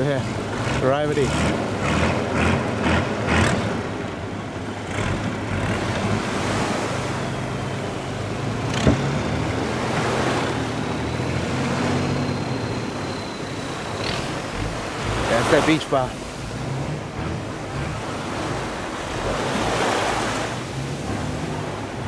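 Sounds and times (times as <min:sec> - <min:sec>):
boat engine humming: 0:00.0 - 0:22.0
surf washing on beach: 0:00.0 - 0:22.0.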